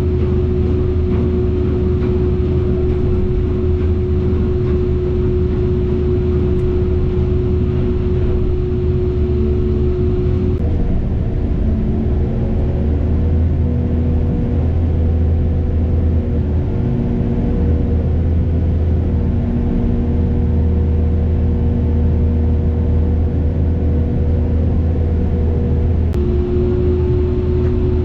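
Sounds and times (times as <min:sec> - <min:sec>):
heavy machine engine droning: 0:00.0 - 0:28.0.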